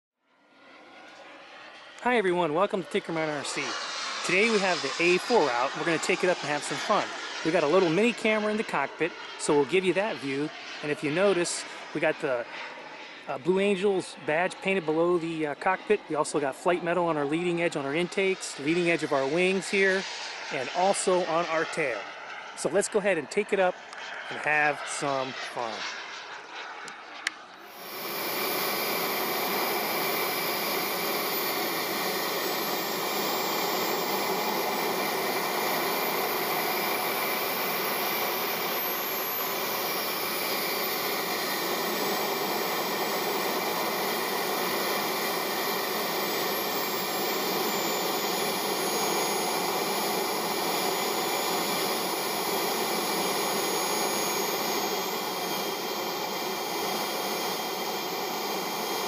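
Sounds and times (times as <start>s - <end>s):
model jet turbine whine: 0.2s - 59.0s.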